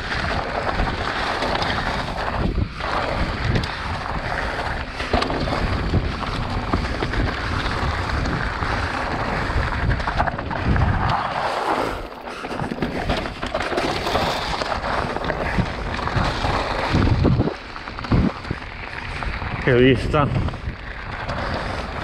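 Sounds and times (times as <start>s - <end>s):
bike knocks and rattles: 0.0s - 11.2s, 11.8s - 22.0s
bike tyres crunching on gravel: 0.0s - 22.0s.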